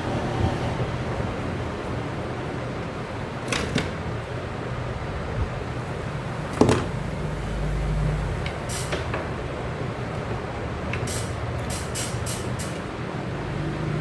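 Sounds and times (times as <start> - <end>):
low background hum: 0.7 - 13.6.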